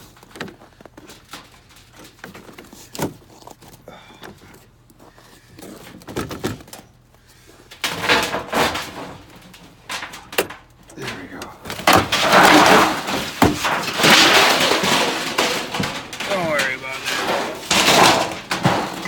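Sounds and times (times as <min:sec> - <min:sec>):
scraping and rustling: 0:00.0 - 0:19.0.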